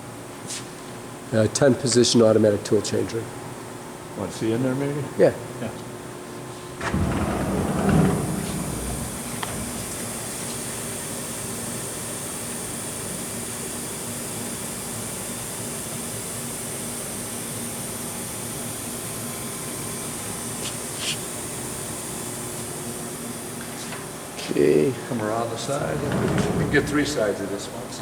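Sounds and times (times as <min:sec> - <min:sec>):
mechanical fan hum and hiss: 0:00.0 - 0:28.0.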